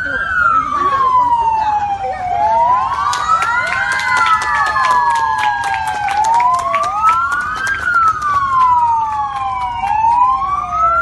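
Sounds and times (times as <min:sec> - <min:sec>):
police sirens wailing: 0:00.0 - 0:11.0.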